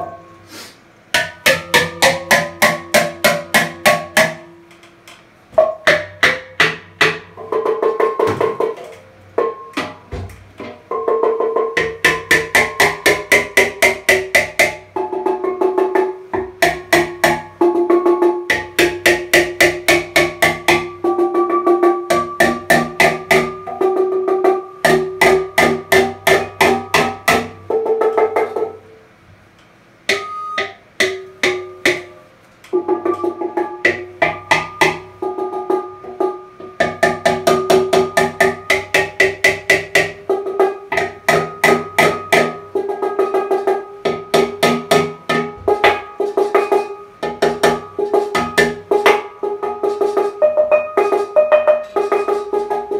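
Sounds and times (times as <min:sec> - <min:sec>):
hammer tapping on steel handpan: 0:01.1 - 0:29.0, 0:30.1 - 0:52.9.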